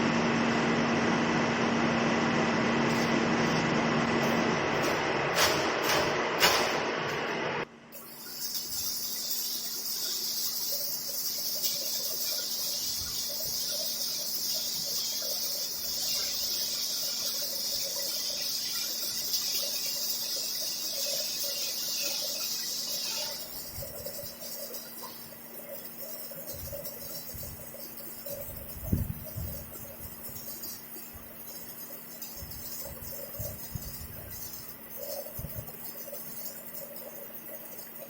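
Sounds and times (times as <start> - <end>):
arc welder sizzling: 0.0 - 38.0.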